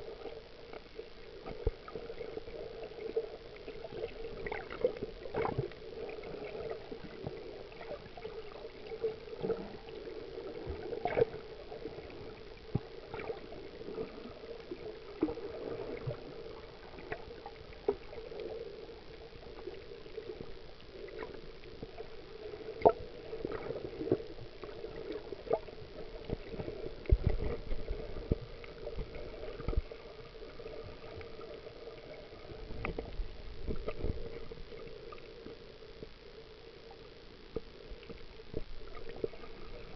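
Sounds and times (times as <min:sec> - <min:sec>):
muffled underwater hum: 0:00.0 - 0:39.9.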